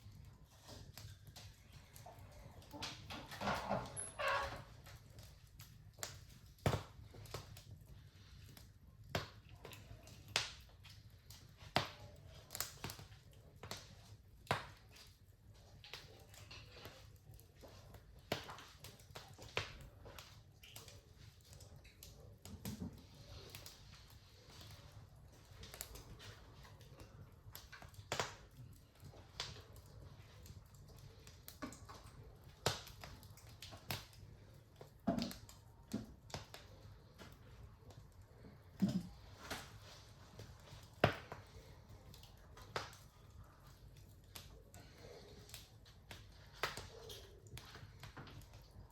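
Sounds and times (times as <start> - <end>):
low rumble of flame: 0.0 - 48.9
wood fire crackling: 0.0 - 48.9.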